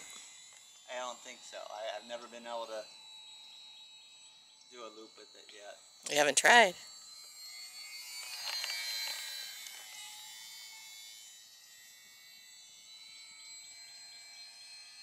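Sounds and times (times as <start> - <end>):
model plane motor whining: 0.0 - 15.0.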